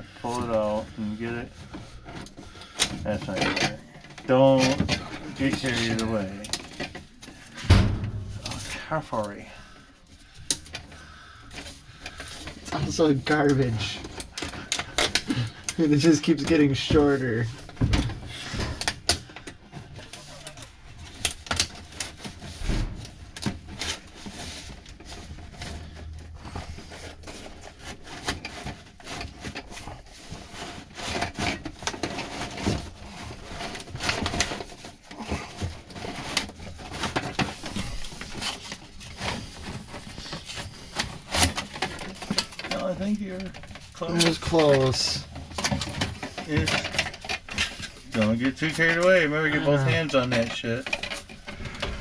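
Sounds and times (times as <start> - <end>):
foil duct crinkling and scraping: 0.0 - 52.0.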